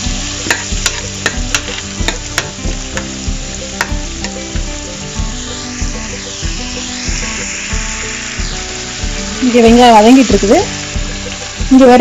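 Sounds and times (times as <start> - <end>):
nuts sizzling in hot oil: 0.0 - 12.0.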